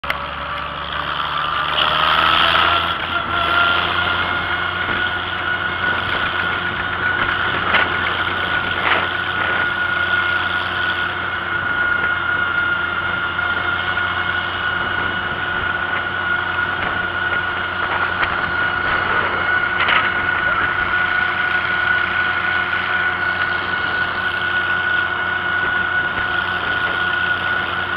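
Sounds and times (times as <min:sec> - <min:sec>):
high whine: 0:00.0 - 0:27.9
tractor engine running: 0:00.0 - 0:27.9.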